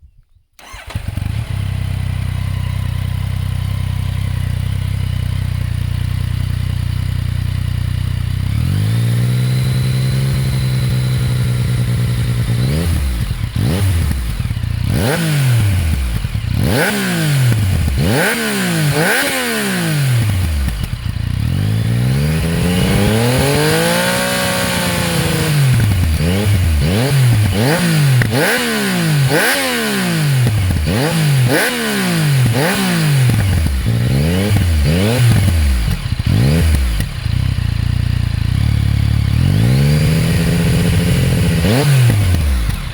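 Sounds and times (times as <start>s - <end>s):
motorcycle engine revving: 0.6s - 42.9s.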